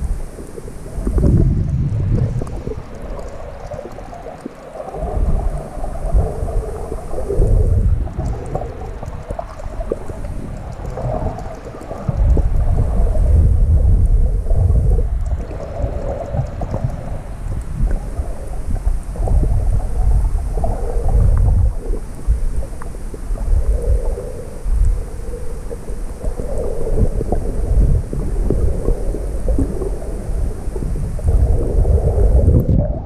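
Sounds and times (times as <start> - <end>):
underwater rumbling and gurgling: 0.0 - 33.0.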